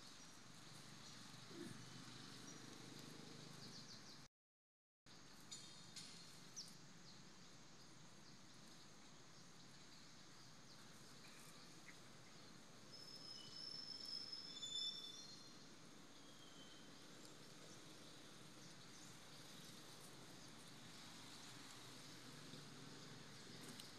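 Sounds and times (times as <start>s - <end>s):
faint outdoor hiss: 0.0s - 4.2s, 5.1s - 23.9s.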